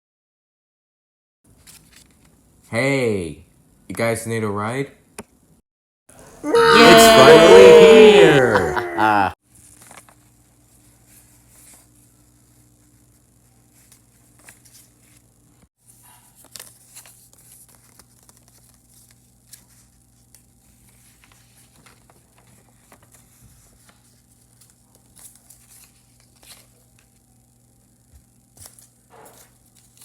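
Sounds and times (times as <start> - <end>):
low electrical hum: 1.5 - 30.0.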